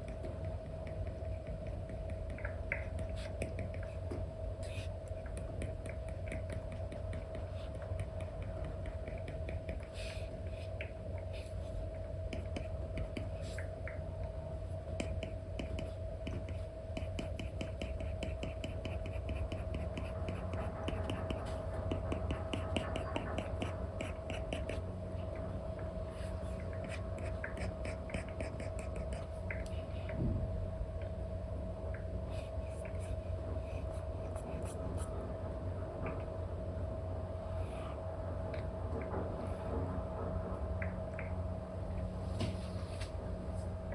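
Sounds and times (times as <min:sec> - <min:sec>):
steady background hum: 0:00.0 - 0:43.9.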